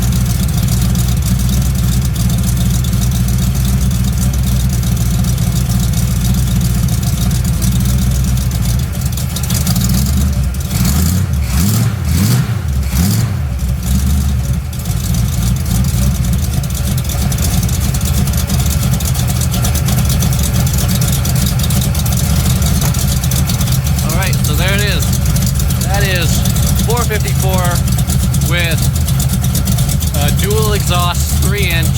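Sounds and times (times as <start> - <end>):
truck engine idling and revving: 0.0 - 31.9.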